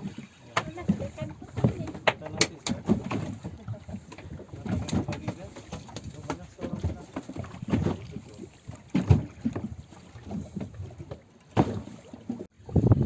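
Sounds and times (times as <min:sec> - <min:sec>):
low thumps on a boat: 0:00.0 - 0:13.0
rushes of water noise: 0:00.0 - 0:13.0.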